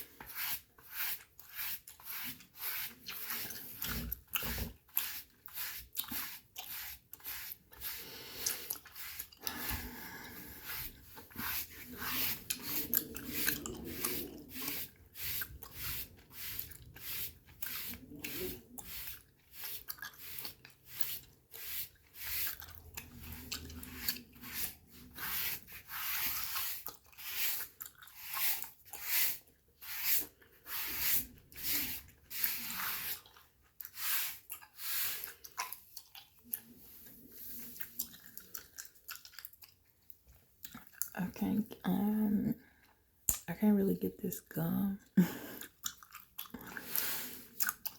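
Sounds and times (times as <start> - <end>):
gum chewing and smacking: 0.0 - 41.2, 42.6 - 43.5, 45.4 - 47.9.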